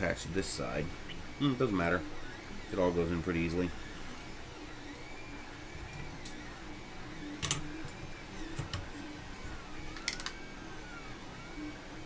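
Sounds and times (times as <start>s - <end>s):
steady hum: 0.0s - 12.0s
stepper motors singing tones: 0.2s - 12.0s.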